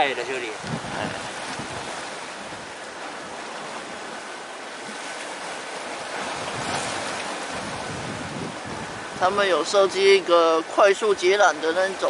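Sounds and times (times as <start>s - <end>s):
sea waves at shore: 0.0s - 12.0s
wind: 0.0s - 12.0s.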